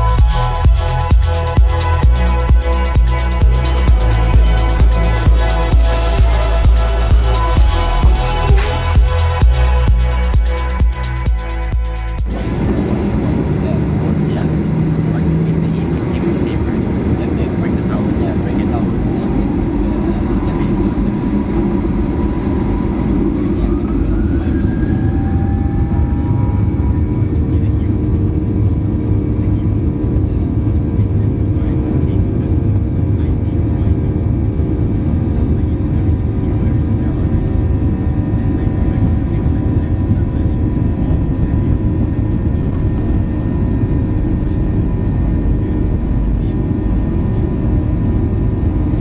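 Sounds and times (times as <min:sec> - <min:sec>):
airplane cabin low rumble: 0:00.0 - 0:49.0
jet engine whine rising: 0:02.8 - 0:49.0.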